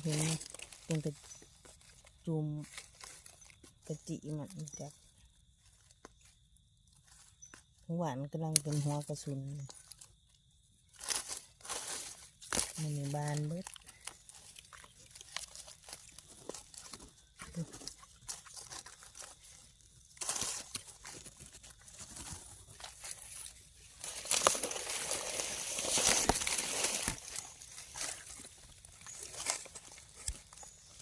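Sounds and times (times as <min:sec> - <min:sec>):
rustling and crinkling leaves: 0:00.0 - 0:31.0.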